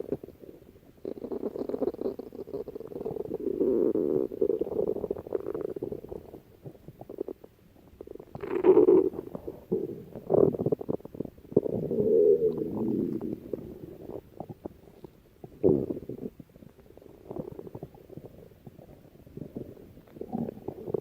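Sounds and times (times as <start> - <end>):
stomach growling and gurgling: 0.0 - 21.0.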